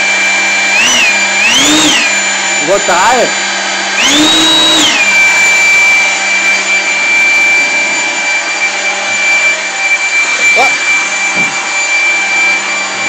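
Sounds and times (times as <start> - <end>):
leaf blower whining: 0.0 - 13.0.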